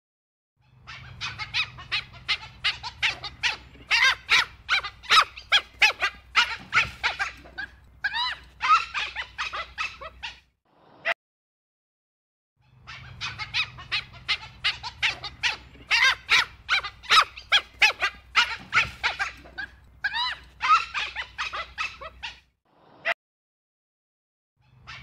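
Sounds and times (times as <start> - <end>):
wild dog squeaking calls: 0.6 - 10.5, 12.6 - 22.5, 24.6 - 25.0.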